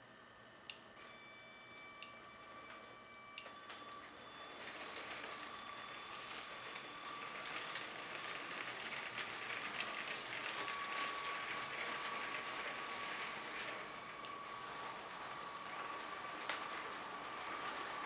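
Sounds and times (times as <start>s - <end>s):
electric motor whine: 0.0s - 18.0s.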